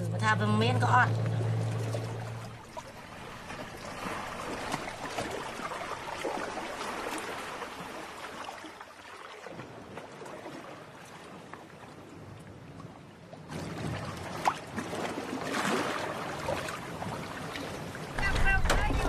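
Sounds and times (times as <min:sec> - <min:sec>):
paddles splashing in water: 0:01.0 - 0:19.0.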